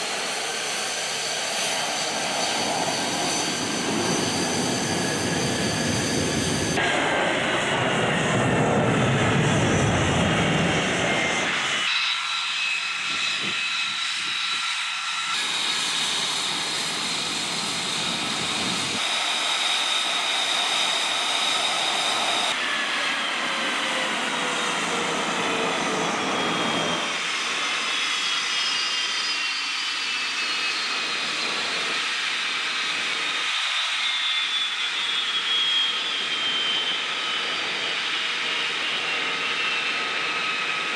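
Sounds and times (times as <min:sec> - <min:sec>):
jet engines whining: 0:00.0 - 0:40.9
jet flying past roaring: 0:00.0 - 0:40.9.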